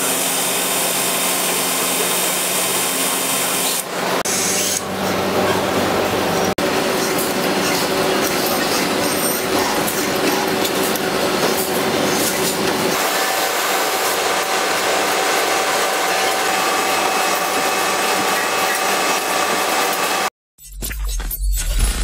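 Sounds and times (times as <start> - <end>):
machine whine: 0.0 - 20.3
tapping machines running: 0.0 - 20.3.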